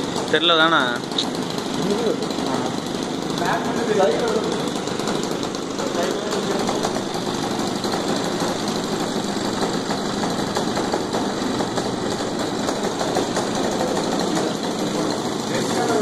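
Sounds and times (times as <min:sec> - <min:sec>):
small engine running steadily: 0:00.0 - 0:16.0.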